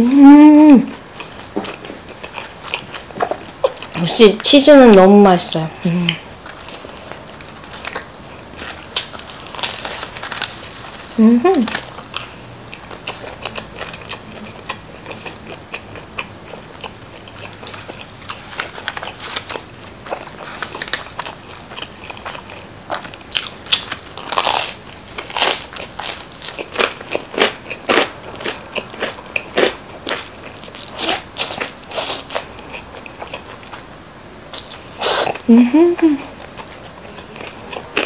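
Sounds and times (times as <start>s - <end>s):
crunching of crispy crust being chewed: 0.9s - 5.0s, 6.1s - 38.0s.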